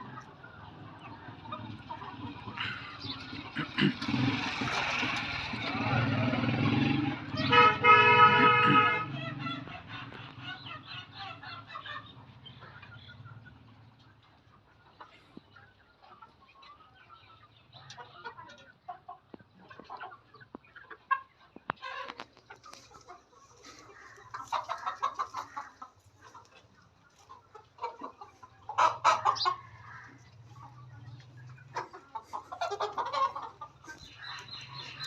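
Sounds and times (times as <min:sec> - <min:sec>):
hens clucking: 0:00.0 - 0:35.0.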